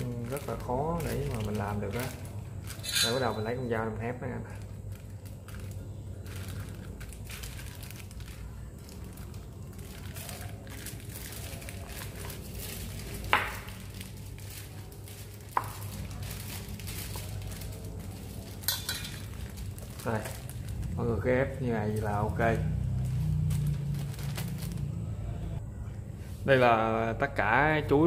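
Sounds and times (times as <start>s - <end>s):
plastic bag crinkling: 0.0s - 25.2s.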